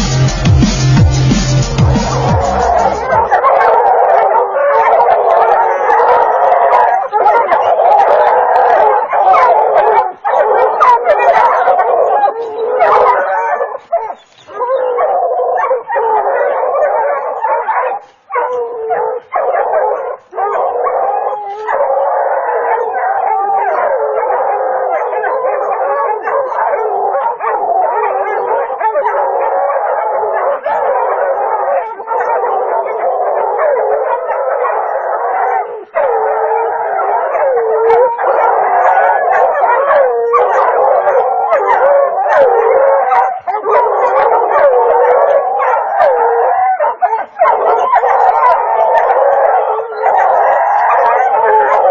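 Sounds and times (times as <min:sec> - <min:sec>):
hounds baying and howling: 0:01.7 - 0:51.9.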